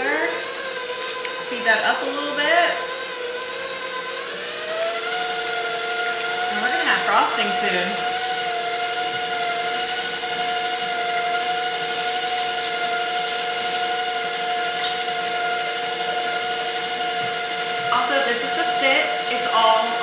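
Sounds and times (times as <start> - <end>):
electric stand mixer whining: 0.0 - 20.0.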